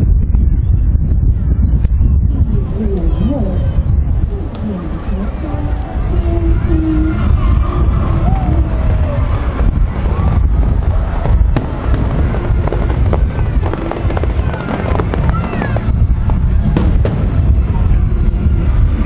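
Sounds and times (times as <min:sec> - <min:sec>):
crowd voices: 0:00.0 - 0:19.0
fireworks bangs and crackles: 0:00.0 - 0:19.0
heavy low rumble: 0:00.0 - 0:19.0
music: 0:00.0 - 0:19.0.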